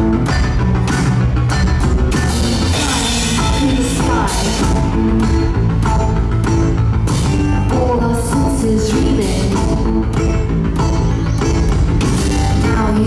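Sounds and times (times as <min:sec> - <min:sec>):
drum kit beat: 0:00.0 - 0:13.0
sustained keyboard chords: 0:00.0 - 0:13.0.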